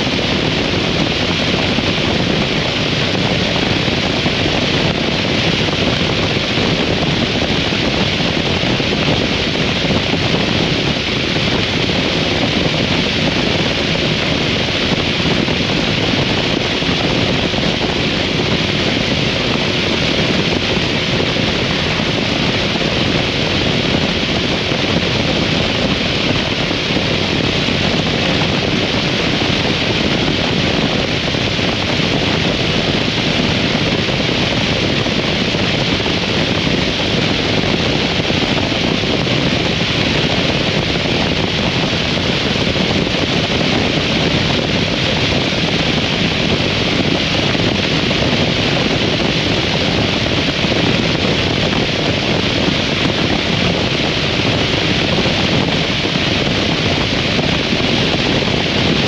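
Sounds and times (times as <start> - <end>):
wind rush over microphone: 0.0 - 59.0.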